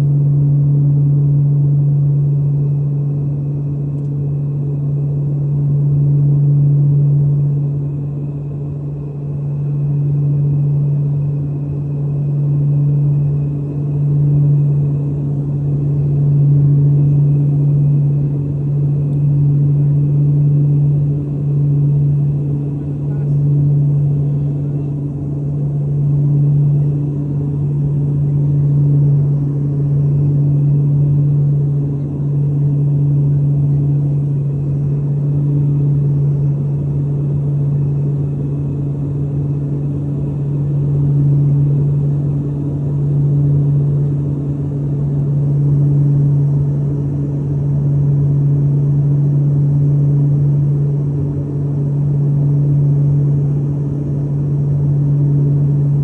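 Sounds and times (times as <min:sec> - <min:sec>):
propeller airplane engine drone: 0:00.0 - 0:56.0.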